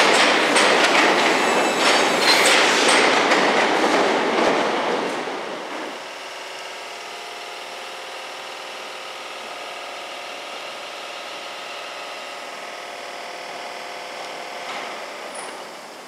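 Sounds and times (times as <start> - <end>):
loud train running noise: 0.0 - 16.0.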